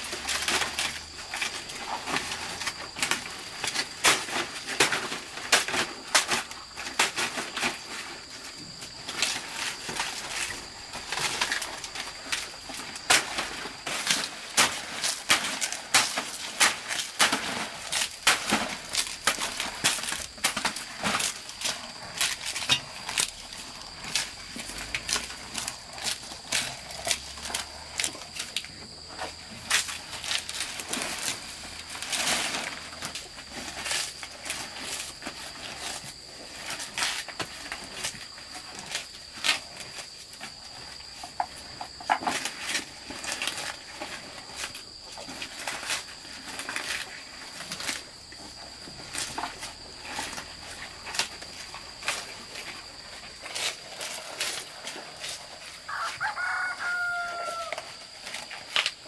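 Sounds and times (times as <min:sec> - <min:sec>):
buffalo chewing leaves: 0:00.0 - 0:59.0.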